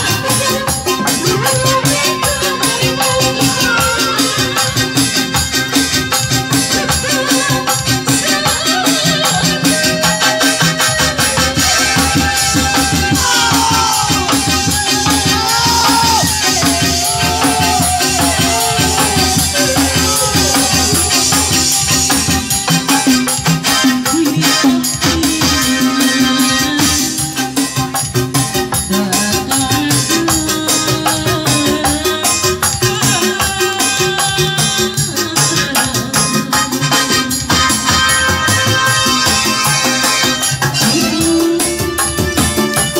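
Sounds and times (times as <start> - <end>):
hand drums fast rhythm: 0.0 - 42.9.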